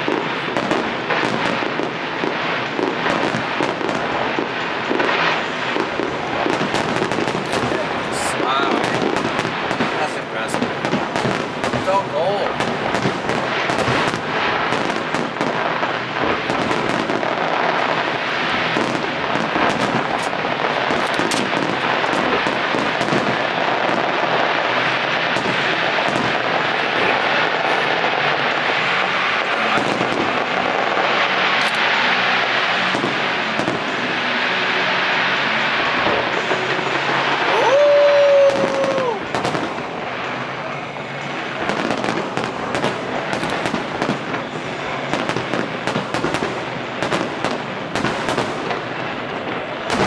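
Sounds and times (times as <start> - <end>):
fireworks crackling and banging: 0.0 - 50.0.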